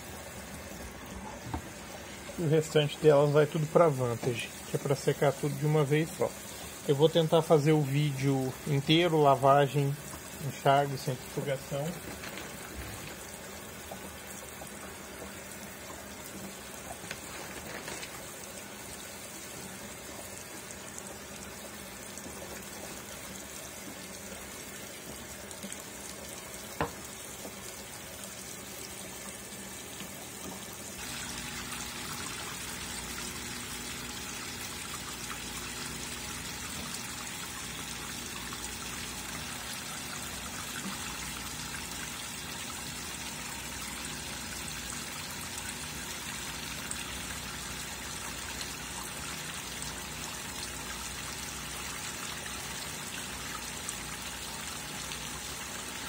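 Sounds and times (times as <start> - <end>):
washing machine filling with water: 0.0 - 56.0.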